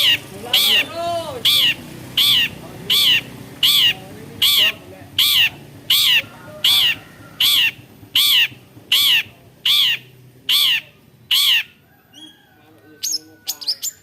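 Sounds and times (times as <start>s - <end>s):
bird call rising and falling: 0.0s - 14.0s.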